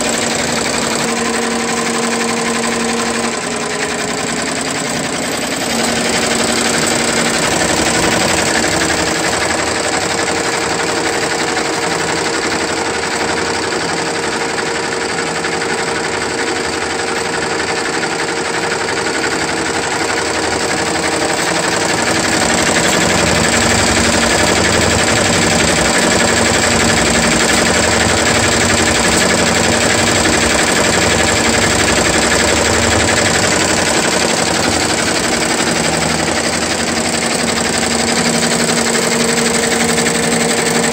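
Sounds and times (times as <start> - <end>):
embroidery machine stitching clatter: 0.0 - 40.9
machine hum: 0.0 - 40.9.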